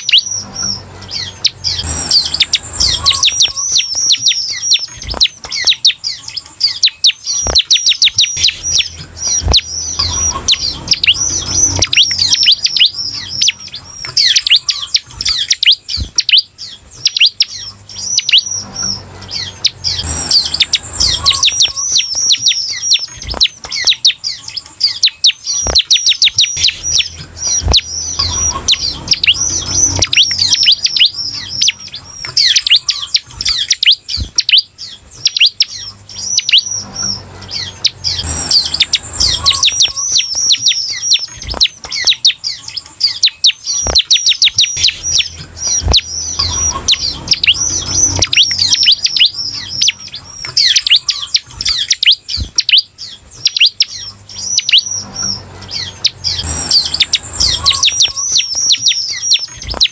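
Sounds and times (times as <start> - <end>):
bird singing sharp chirps: 0.0 - 59.9.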